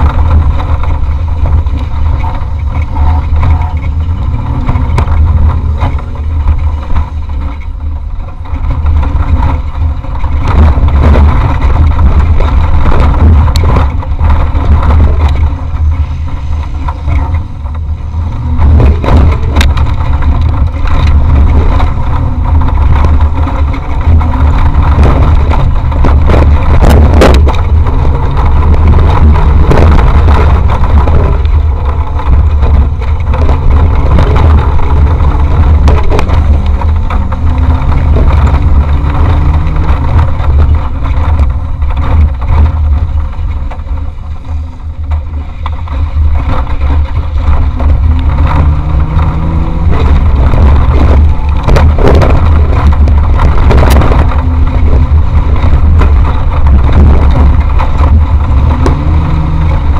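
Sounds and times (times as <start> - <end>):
engine rumbling under load: 0.0 - 59.9
vehicle knocks and rattles: 0.0 - 59.9.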